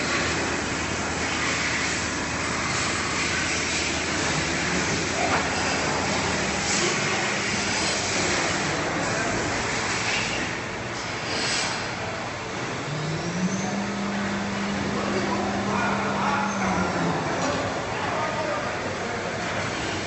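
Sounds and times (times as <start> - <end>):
machining center running: 0.0 - 20.0.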